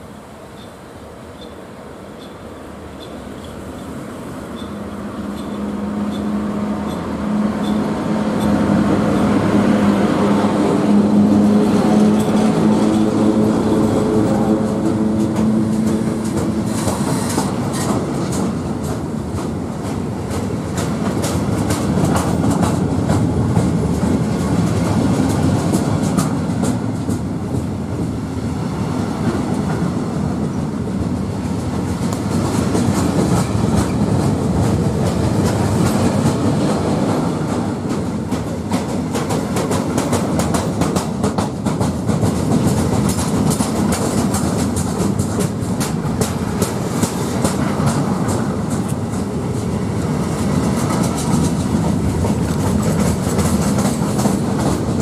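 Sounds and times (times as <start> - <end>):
freight train rumble: 0.0 - 55.0
wheels clicking over rail joints: 4.6 - 9.3, 11.4 - 27.8, 31.0 - 55.0.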